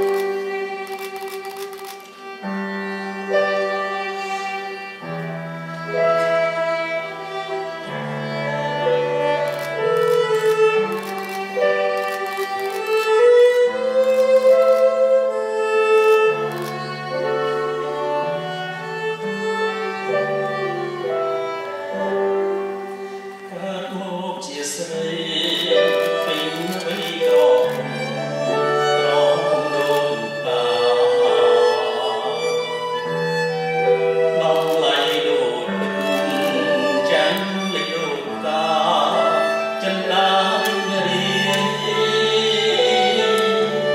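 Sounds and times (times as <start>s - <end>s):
bowed string instrument melody: 0.0s - 43.9s.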